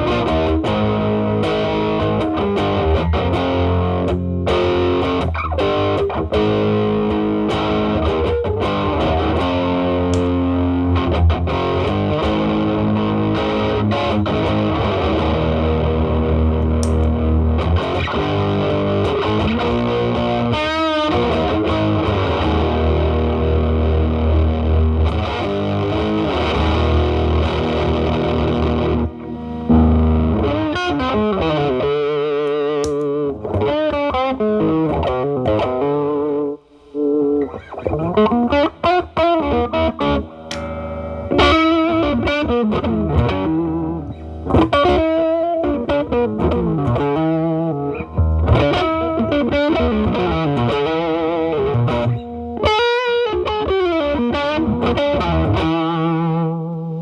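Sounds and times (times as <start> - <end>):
distorted electric guitar chords: 0.0 - 57.0
electric guitar lead lines: 0.0 - 57.0.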